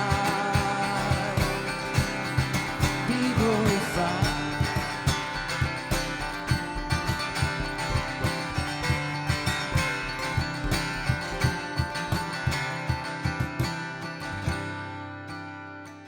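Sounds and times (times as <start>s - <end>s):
guitar strumming: 0.0s - 16.0s.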